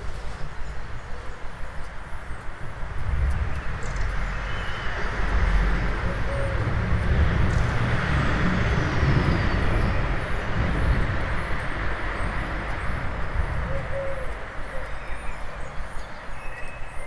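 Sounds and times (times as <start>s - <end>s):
rumble of town traffic: 0.0s - 17.0s.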